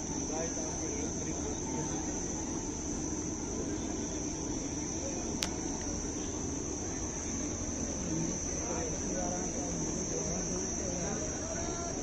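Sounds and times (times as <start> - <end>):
crowd murmur: 0.0 - 12.0.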